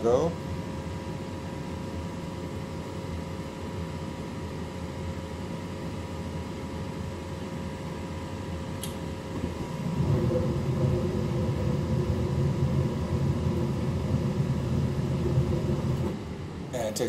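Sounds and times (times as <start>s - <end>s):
faint steady hum: 0.0s - 17.0s
gas furnace burner and fan rush: 0.0s - 17.0s.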